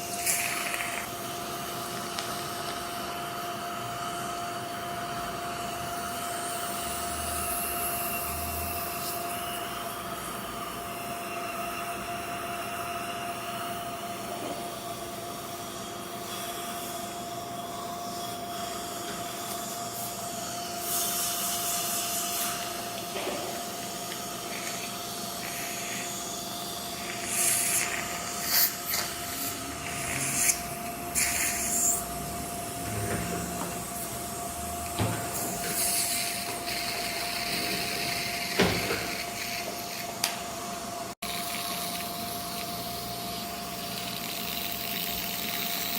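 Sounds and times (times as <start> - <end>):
suction hum: 0.0 - 14.4, 17.8 - 45.9
dental drill hissing: 0.0 - 45.9.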